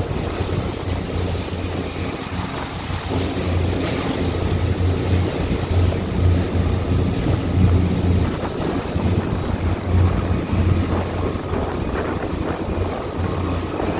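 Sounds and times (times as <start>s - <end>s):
boat engine drone: 0.0s - 13.9s
wind buffeting microphone: 0.0s - 13.9s.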